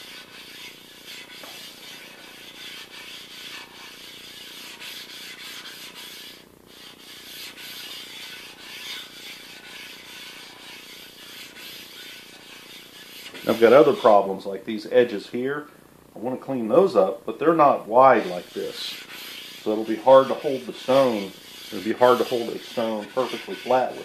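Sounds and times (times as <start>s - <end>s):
stone scraping on metal: 0.0s - 14.3s, 18.1s - 24.0s.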